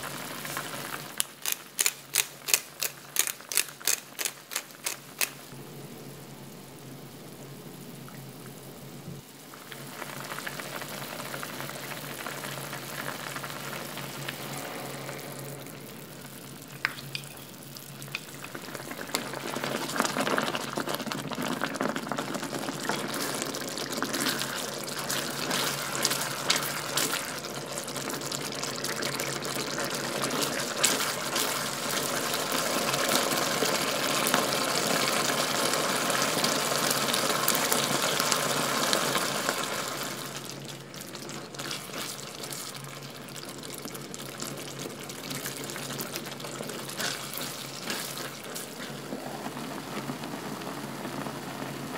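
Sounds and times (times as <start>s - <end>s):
sauce bubbling in frying pan: 7.4s - 51.9s.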